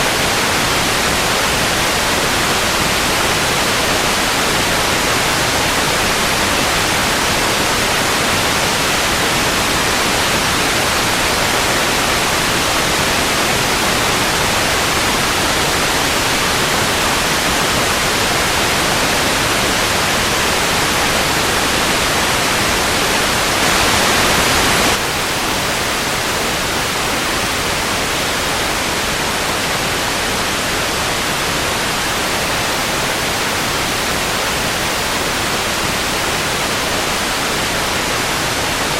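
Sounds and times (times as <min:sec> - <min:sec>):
tv static hiss: 0:00.0 - 0:38.9.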